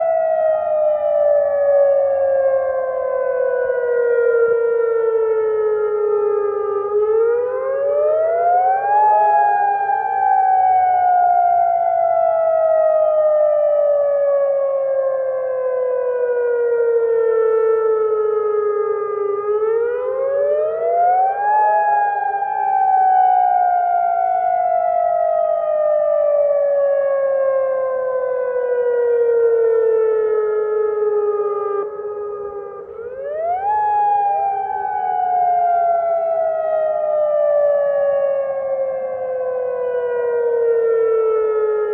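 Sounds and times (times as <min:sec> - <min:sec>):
emergency siren wailing: 0:00.0 - 0:41.9.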